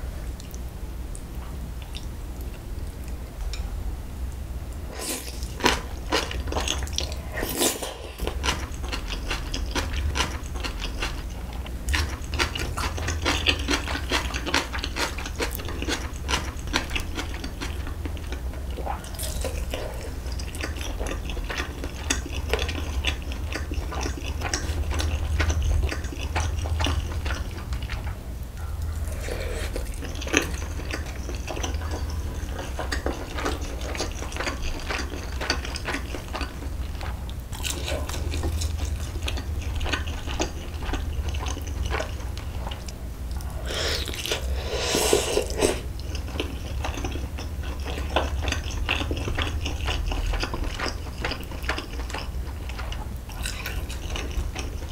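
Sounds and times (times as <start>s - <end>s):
close chewing and biting: 5.0s - 54.9s.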